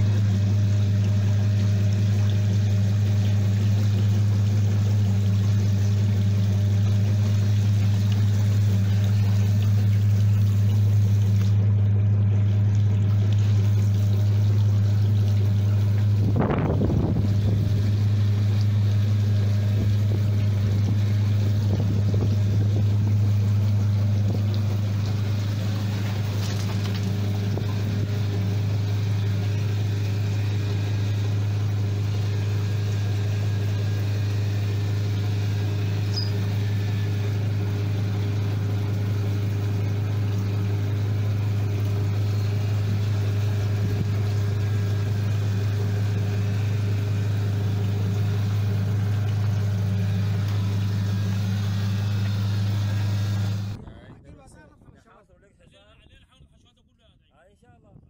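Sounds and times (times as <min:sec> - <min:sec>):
machinery motor hum: 0:00.0 - 0:53.8
water running: 0:00.0 - 0:53.8.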